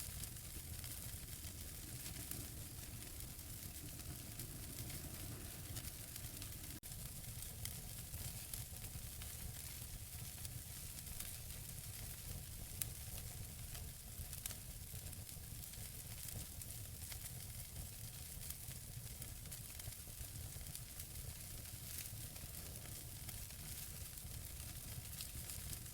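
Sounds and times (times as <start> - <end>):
logs crackling and popping: 0.0 - 14.7, 18.2 - 25.9
fire hissing and rumbling: 0.0 - 25.9.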